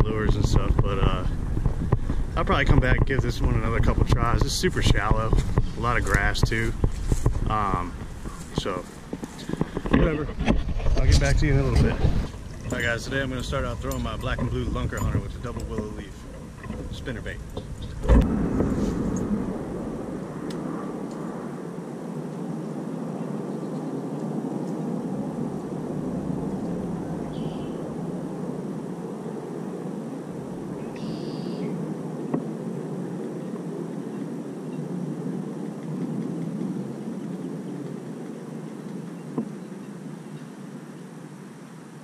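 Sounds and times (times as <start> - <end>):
low outdoor rumble: 0.0 - 40.1.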